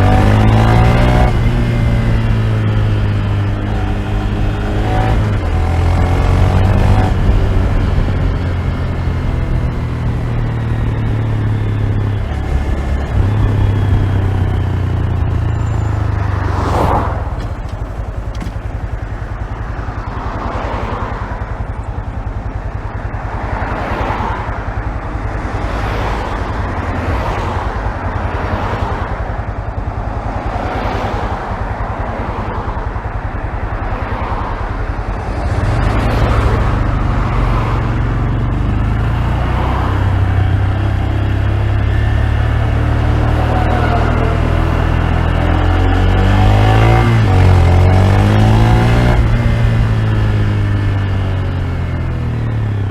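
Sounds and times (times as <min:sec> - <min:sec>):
muffled motorcycle engine: 0:00.0 - 0:52.9.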